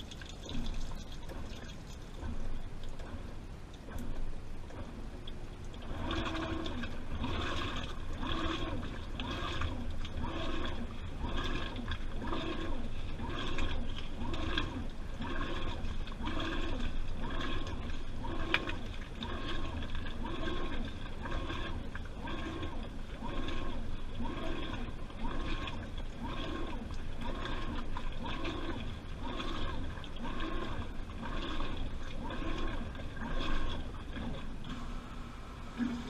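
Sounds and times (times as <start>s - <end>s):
washing machine motor whine: 0.0s - 36.0s
water sloshing in drum: 0.0s - 36.0s.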